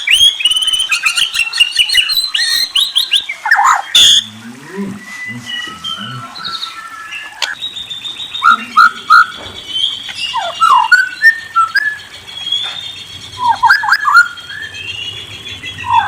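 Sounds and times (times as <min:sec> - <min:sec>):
birds whistling and trilling: 0:00.0 - 0:16.0.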